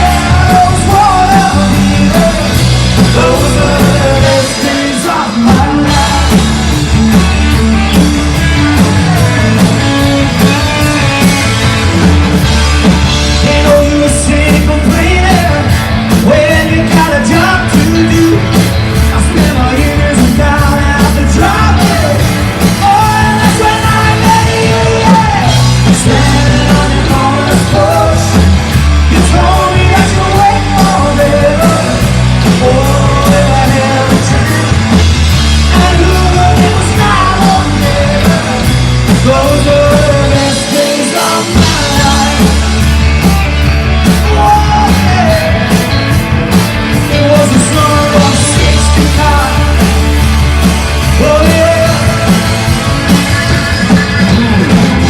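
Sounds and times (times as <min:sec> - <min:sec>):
person singing: 0:00.0 - 0:11.3, 0:13.2 - 0:46.2, 0:46.9 - 0:50.3, 0:50.9 - 0:55.0
live rock band playing: 0:00.0 - 0:55.0.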